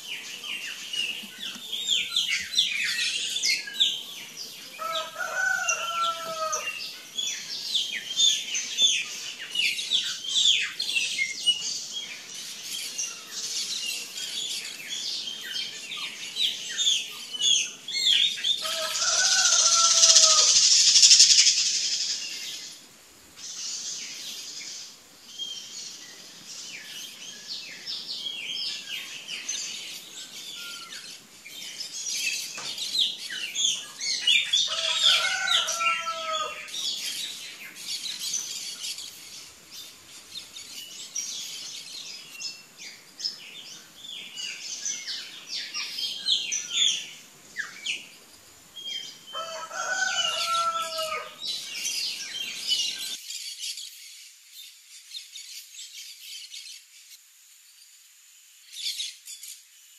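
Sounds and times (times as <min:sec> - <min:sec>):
birds chirping: 0:00.0 - 0:56.8
steady hiss: 0:06.8 - 0:34.7, 0:36.6 - 0:49.3, 0:51.5 - 0:59.9.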